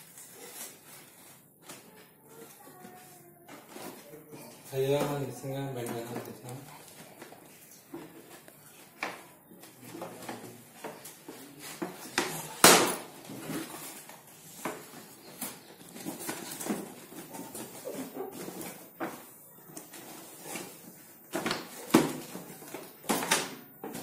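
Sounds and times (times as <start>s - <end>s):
cardboard and plastic rustling: 0.0s - 24.0s.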